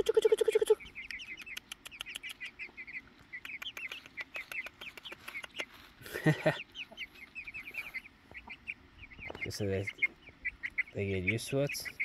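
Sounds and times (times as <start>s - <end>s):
chickens pecking ground: 0.0s - 12.0s
high bird chirps: 0.0s - 12.0s.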